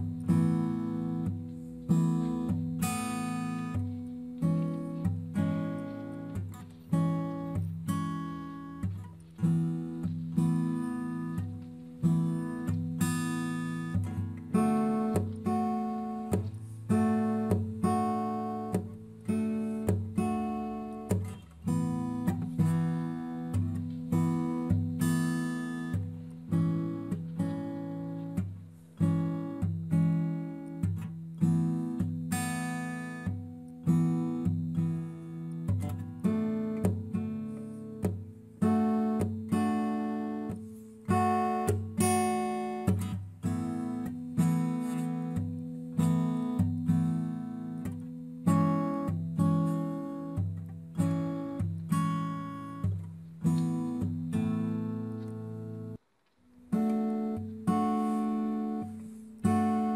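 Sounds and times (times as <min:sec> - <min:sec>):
acoustic guitar chords: 0:00.0 - 0:59.9.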